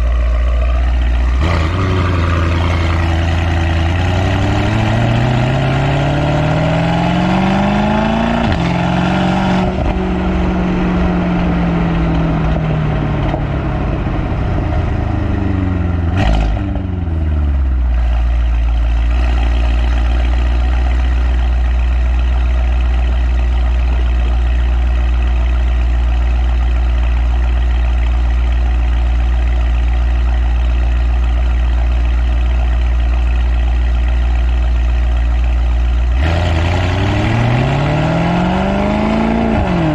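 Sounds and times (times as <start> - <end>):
car engine revving and idling: 0.0 - 39.9.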